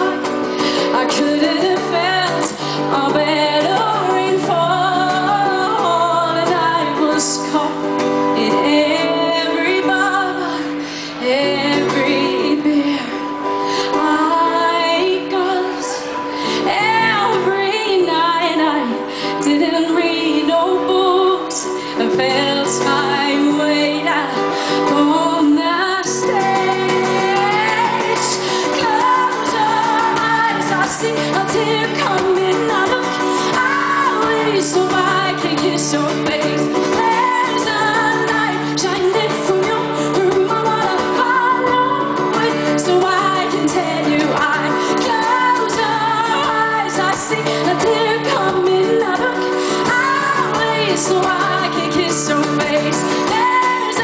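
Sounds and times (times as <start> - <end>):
acoustic guitar strumming: 0.0 - 54.0
woman singing: 0.0 - 54.0.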